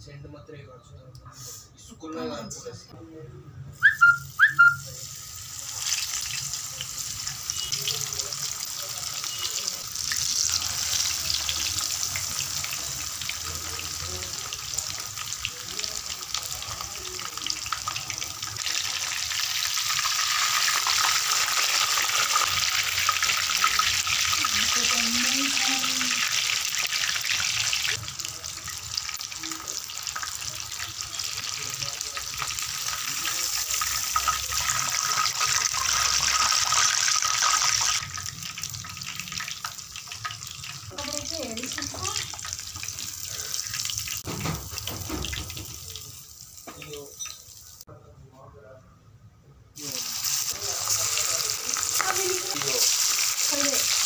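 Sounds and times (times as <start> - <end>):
fish sizzling in hot oil: 3.9 - 47.8, 49.8 - 54.0.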